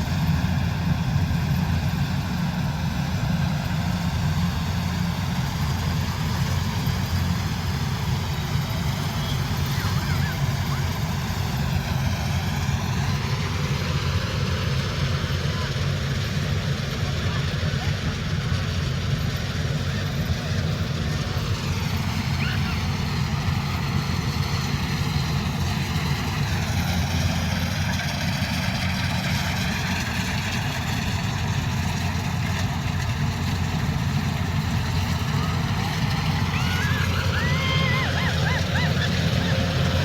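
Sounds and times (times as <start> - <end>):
combine harvester engine droning: 0.0 - 40.0.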